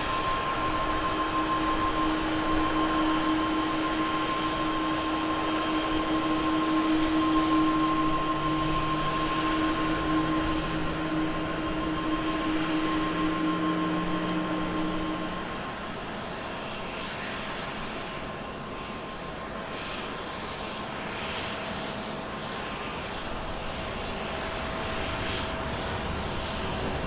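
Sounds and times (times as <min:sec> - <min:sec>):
jet engines whining: 0:00.0 - 0:27.0.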